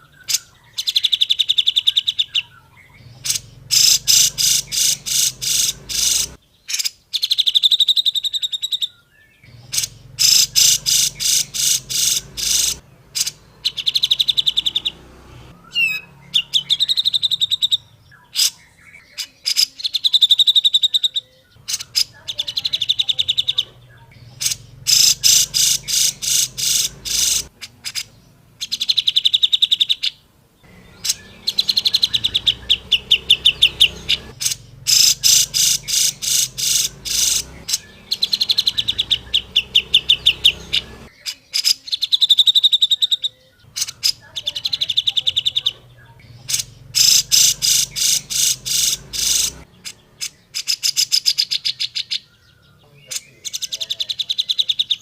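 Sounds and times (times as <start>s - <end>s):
bird harsh chattering calls: 0.0s - 55.0s.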